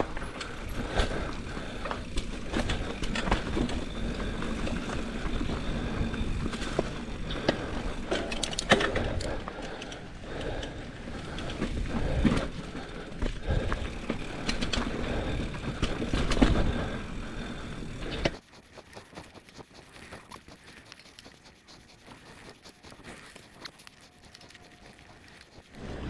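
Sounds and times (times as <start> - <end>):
bike tyres on dirt trail: 0.0 - 26.0.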